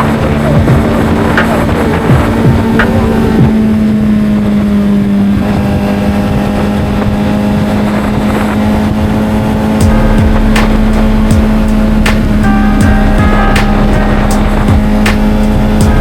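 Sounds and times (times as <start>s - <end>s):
motorcycle engine cruising: 0.0s - 16.0s
wind rush: 0.0s - 16.0s.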